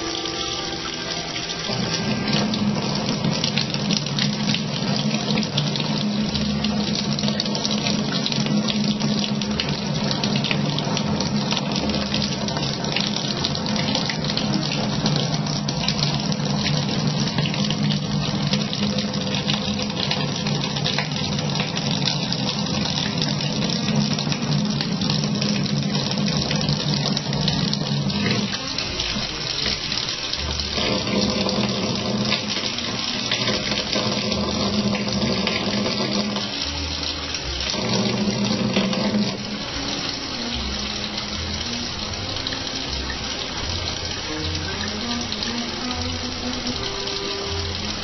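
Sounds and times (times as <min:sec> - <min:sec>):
tap running into a sink: 0:00.0 - 0:48.0.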